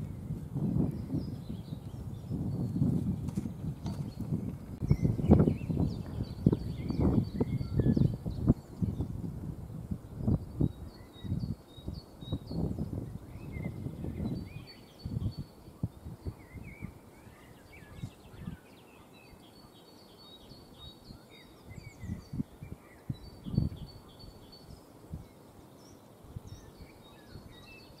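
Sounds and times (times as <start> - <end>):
wind buffeting microphone: 0.0 - 18.8, 20.7 - 25.3, 26.2 - 28.0
songbirds singing: 0.0 - 28.0.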